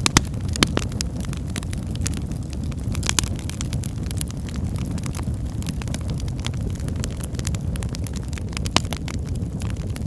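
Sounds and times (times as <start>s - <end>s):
fire crackling and popping: 0.0s - 10.0s.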